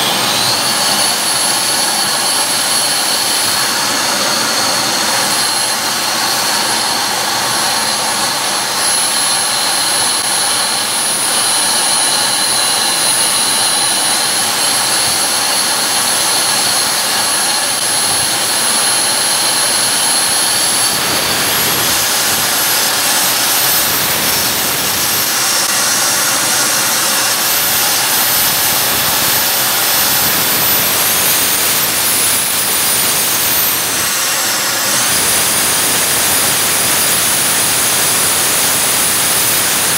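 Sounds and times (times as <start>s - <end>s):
jet exhaust rush: 0.0s - 39.9s
model jet turbine whine: 0.0s - 39.9s.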